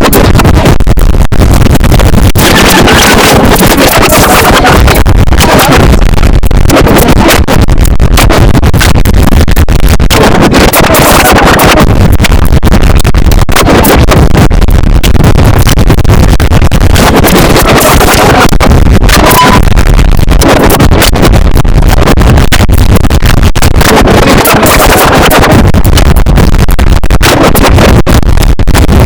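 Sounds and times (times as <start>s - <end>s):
distorted clipped noise: 0.0s - 29.0s.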